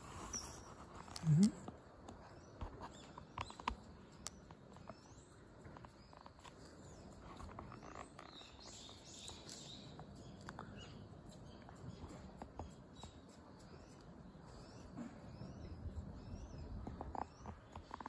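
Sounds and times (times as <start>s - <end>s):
faint high bird chirps: 0.2s - 18.0s.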